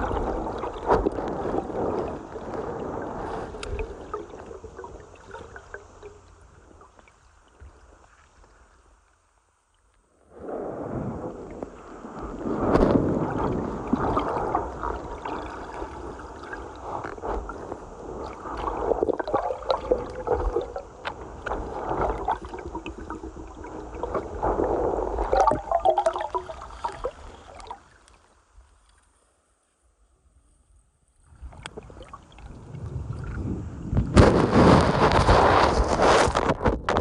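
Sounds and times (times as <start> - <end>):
muffled water gurgling and sloshing: 0.0 - 29.2, 30.0 - 37.0.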